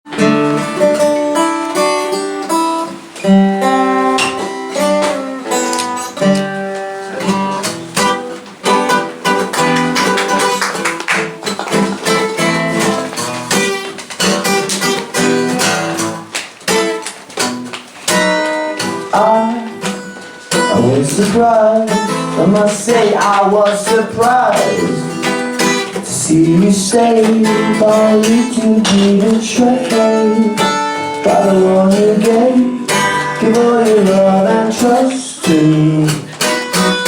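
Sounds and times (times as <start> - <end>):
acoustic guitar strummed: 0.0 - 37.0.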